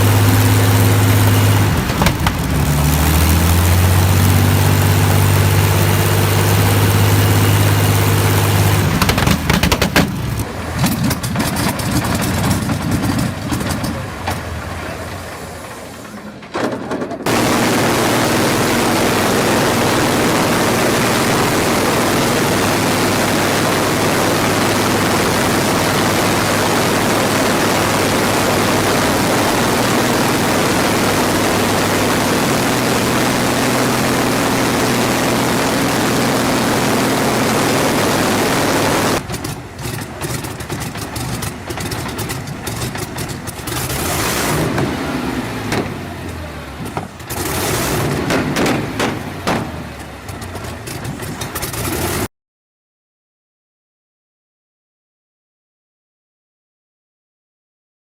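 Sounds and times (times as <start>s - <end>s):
aircraft engine and propeller drone: 0.0s - 16.6s, 17.3s - 52.3s
propeller aircraft engine sputtering: 0.0s - 52.3s.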